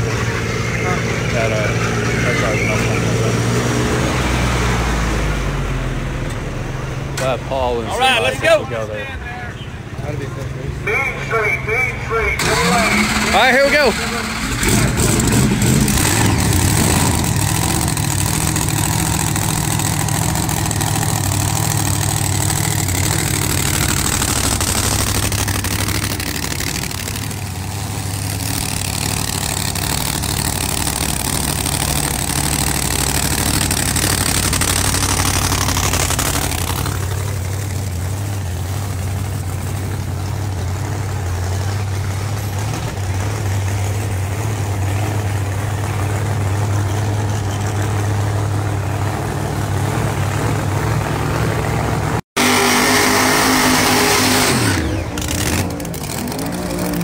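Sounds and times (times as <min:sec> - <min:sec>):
car engines idling: 0:00.0 - 0:57.0.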